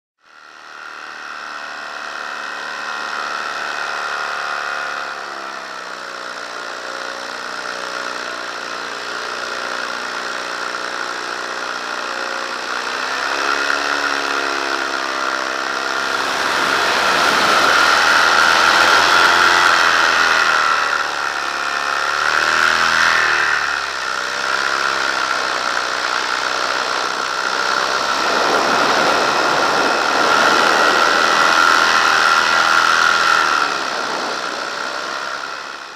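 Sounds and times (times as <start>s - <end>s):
paramotor engine and propeller: 0.2s - 35.9s.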